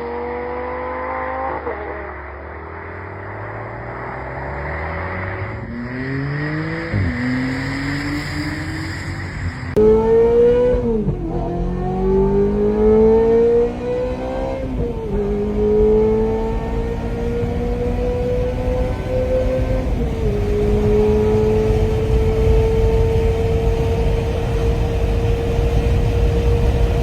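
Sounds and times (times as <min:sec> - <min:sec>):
sports car engine accelerating: 0:00.0 - 0:27.0.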